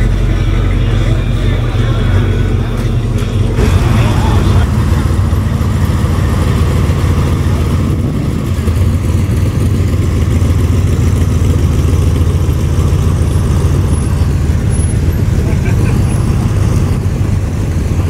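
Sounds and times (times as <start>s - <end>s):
car engine deep rumble: 0.0s - 18.0s.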